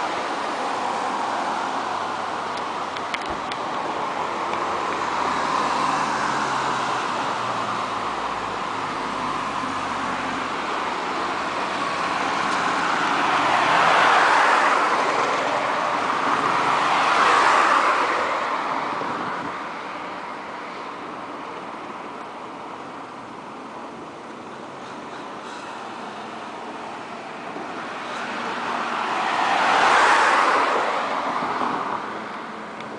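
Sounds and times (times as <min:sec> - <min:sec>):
cars passing close by: 0:00.0 - 0:32.9.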